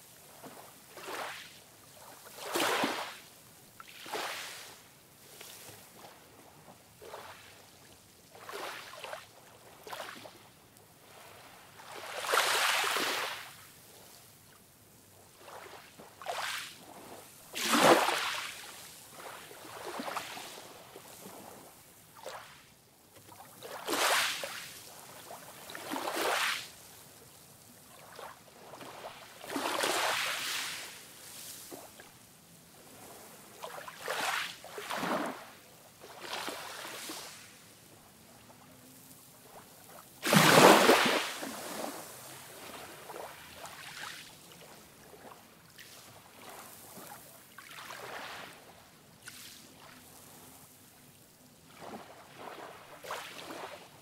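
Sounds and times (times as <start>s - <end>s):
waves breaking on a beach: 0.0s - 54.0s.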